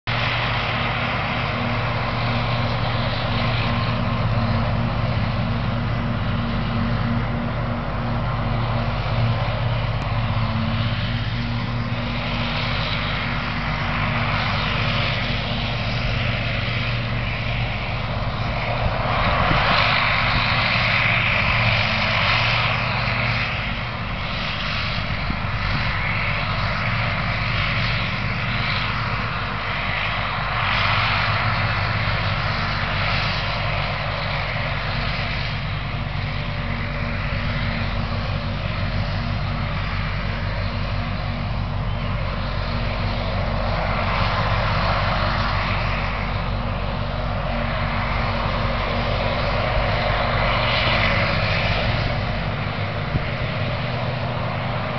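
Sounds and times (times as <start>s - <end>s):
broad rushing noise: 0.0s - 54.9s
harvester engine drone: 0.0s - 54.9s.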